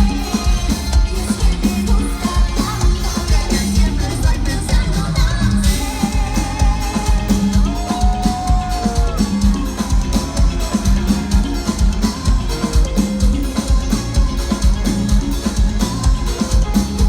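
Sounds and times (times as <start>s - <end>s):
drum kit beat: 0.0s - 17.0s
live band playing: 0.0s - 17.0s
pulsing bass: 0.0s - 17.0s.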